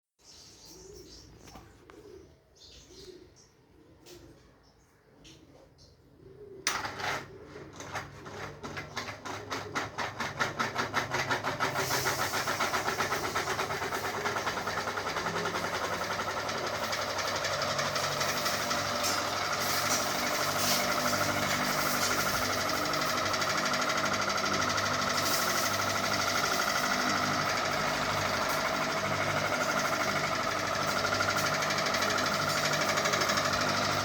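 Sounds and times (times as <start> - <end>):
ceiling fan whirring: 6.6 - 34.0.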